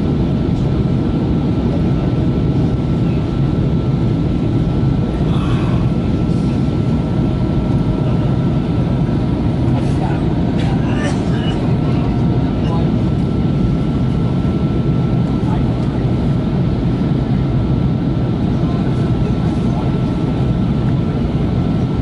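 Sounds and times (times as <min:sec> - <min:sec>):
aircraft engine rumble and airflow: 0:00.0 - 0:22.0.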